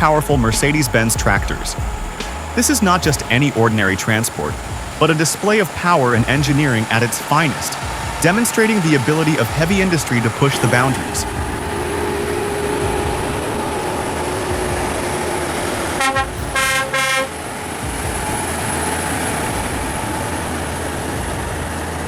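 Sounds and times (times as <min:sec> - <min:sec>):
heavy truck engines running: 0:00.0 - 0:22.0
truck horn blasts: 0:00.0 - 0:22.0.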